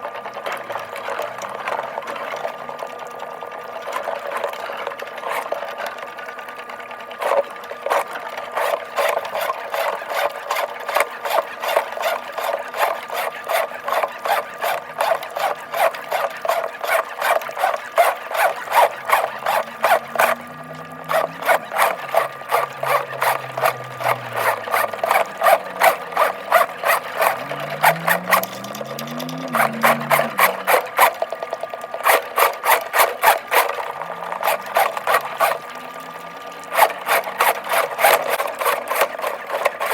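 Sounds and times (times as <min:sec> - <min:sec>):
drain-cleaning machine clattering: 0:00.0 - 0:39.9.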